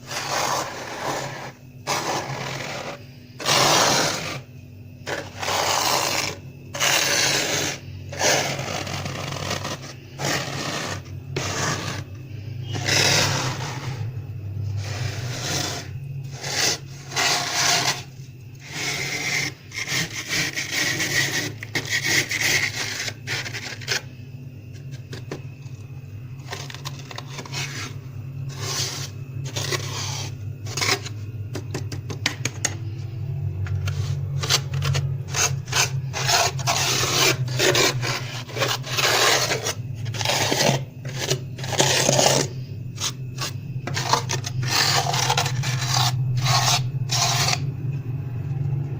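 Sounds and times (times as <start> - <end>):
plastic card scraping frost: 0.0 - 4.5, 5.1 - 14.0, 14.8 - 24.1, 26.4 - 31.8, 33.7 - 47.6.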